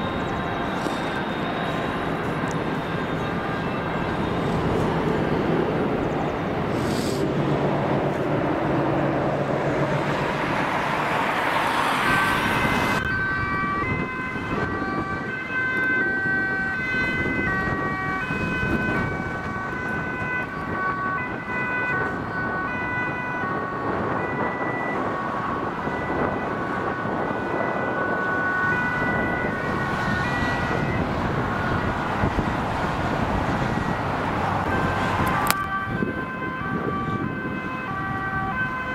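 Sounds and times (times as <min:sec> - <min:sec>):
emergency vehicle sirens: 0:00.0 - 0:38.9
motorway traffic noise: 0:00.0 - 0:38.9.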